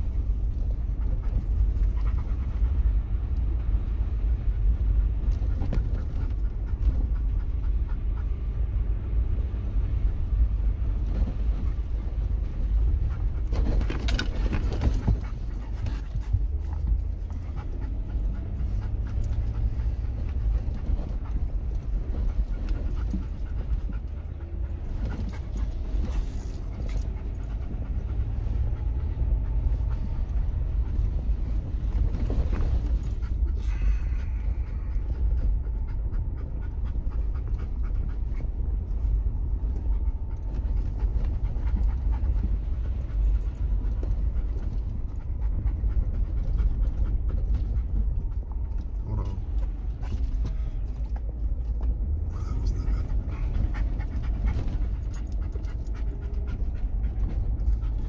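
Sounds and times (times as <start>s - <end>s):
off-road vehicle rumbling: 0.0s - 58.0s
vehicle jolt: 0.0s - 58.0s.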